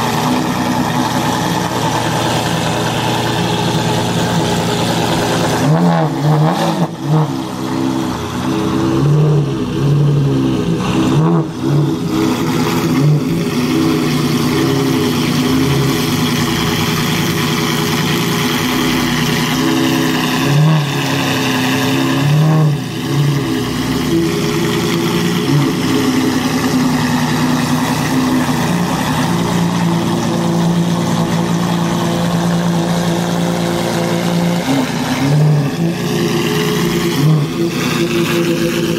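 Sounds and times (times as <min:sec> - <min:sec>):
car engine throttle blips: 0:00.0 - 0:38.9.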